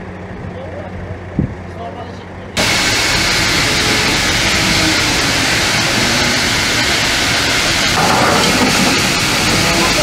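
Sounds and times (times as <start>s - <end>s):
locomotive engine running: 0.0s - 10.0s.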